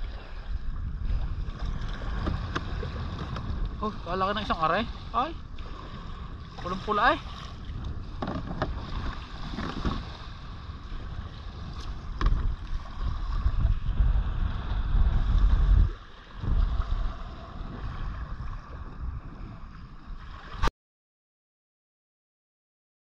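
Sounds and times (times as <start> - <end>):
wind buffeting microphone: 0.0 - 20.7.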